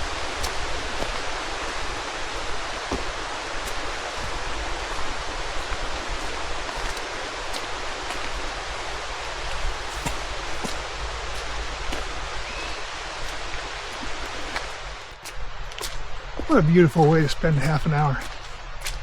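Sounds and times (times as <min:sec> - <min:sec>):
creek rushing: 0:00.0 - 0:19.0.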